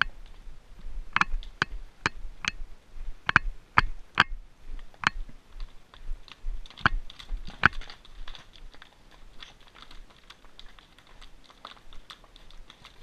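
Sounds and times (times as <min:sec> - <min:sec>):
horse hooves on gravel: 0:00.0 - 0:04.0, 0:04.7 - 0:13.0.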